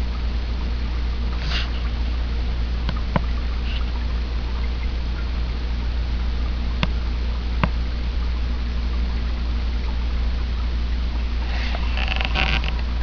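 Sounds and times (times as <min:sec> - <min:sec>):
low constant hum: 0:00.0 - 0:13.0.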